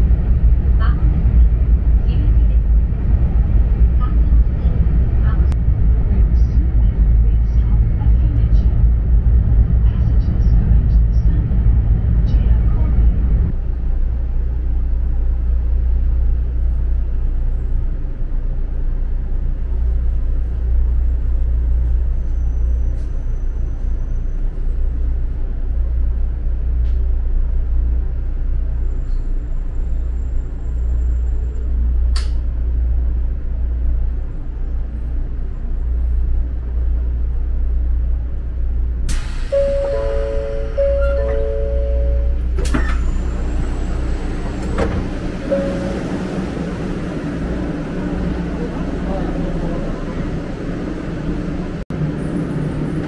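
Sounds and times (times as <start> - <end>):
train interior low rumble: 0.0 - 53.0.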